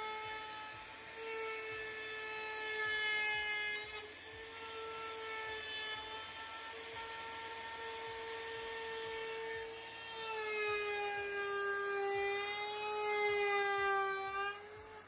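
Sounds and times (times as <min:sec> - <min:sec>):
router whining cutting wood: 0:00.0 - 0:15.0.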